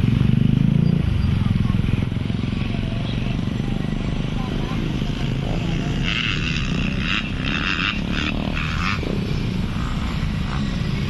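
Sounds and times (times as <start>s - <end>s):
dirt bike engines droning: 0.0s - 11.0s.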